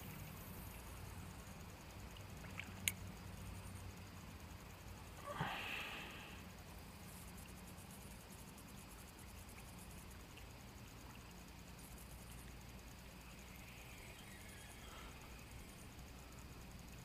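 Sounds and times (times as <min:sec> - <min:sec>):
insects pulsing: 0:00.0 - 0:17.0
river ambience: 0:00.0 - 0:17.0.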